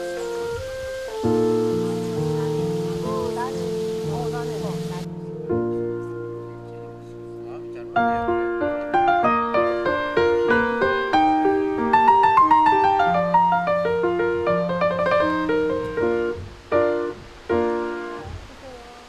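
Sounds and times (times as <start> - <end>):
solo piano music: 0.0 - 18.9.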